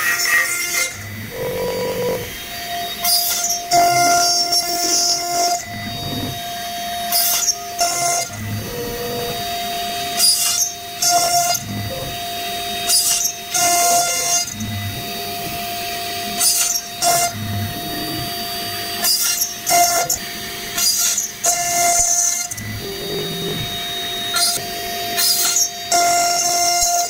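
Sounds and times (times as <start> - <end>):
rasping cutting bursts: 0.0 - 27.0
router spindle high tone: 0.0 - 27.0.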